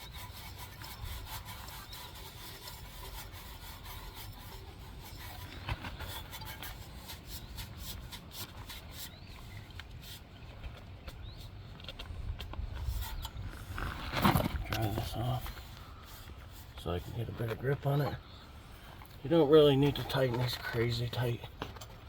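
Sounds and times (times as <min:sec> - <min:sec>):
oil filter rubbing and scraping: 0:00.0 - 0:22.0.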